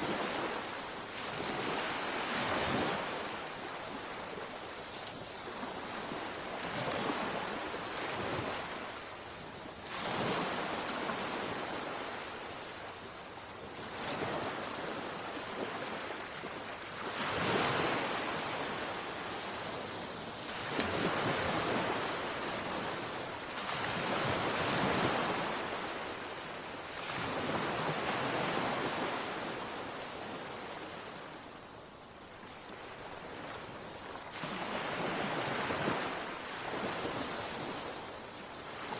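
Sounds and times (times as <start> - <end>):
sea waves breaking on shore: 0.0 - 38.9
wind: 0.0 - 38.9.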